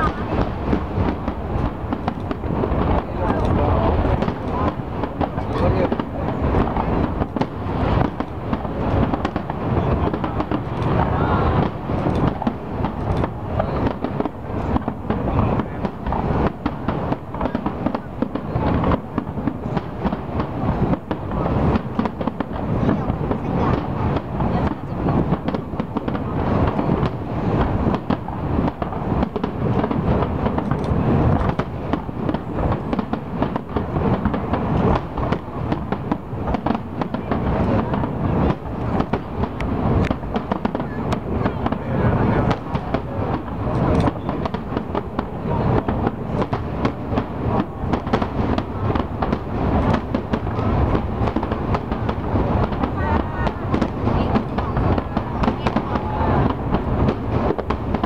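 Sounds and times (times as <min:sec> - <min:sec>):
firework shells bursting: 0:00.0 - 0:58.0.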